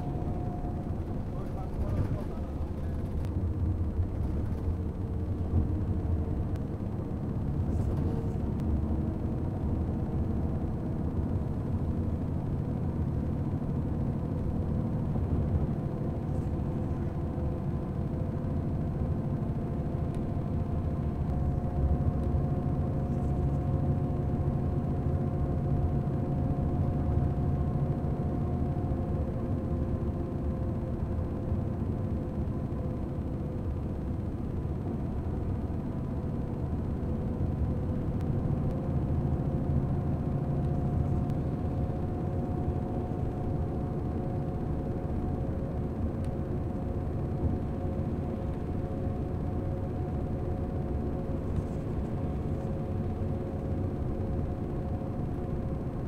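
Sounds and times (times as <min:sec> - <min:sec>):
faint hum: 0:00.0 - 0:56.0
road and engine rumble: 0:00.0 - 0:56.0.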